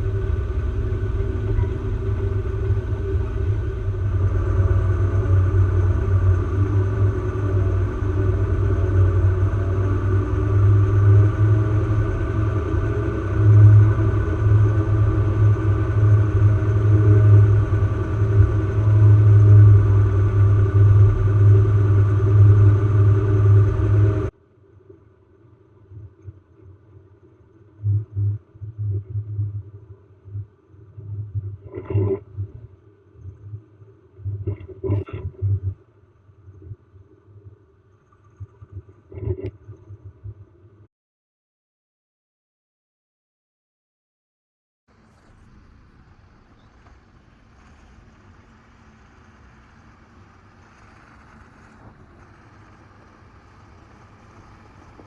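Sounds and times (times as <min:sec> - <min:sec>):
off-road vehicle engine droning: 0:00.0 - 0:24.9, 0:25.6 - 0:35.8, 0:44.9 - 0:55.0.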